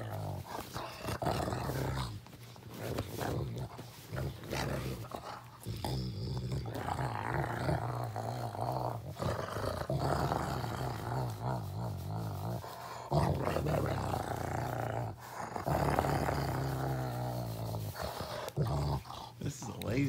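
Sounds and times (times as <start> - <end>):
dog growling: 0.0 - 20.0.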